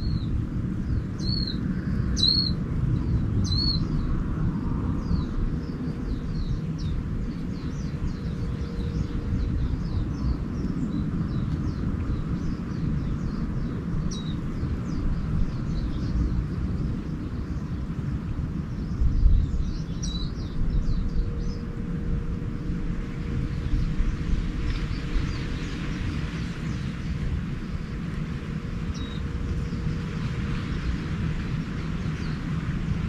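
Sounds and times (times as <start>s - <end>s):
constant low rumble: 0.0s - 33.0s.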